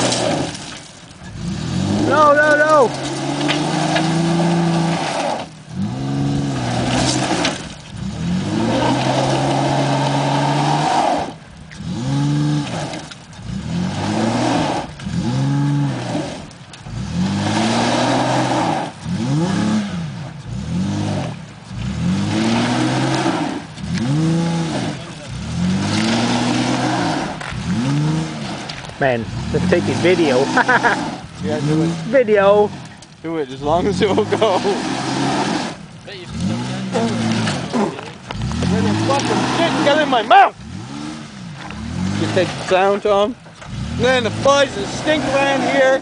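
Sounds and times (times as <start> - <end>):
pickup truck engine revving: 0.0 - 46.0
wheels spinning in mud and gravel: 0.0 - 46.0.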